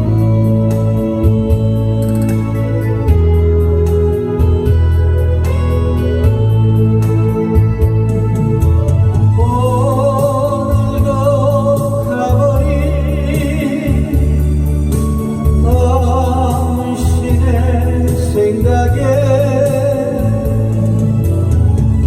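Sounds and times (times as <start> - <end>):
recorded accompaniment with bass: 0.0 - 22.0.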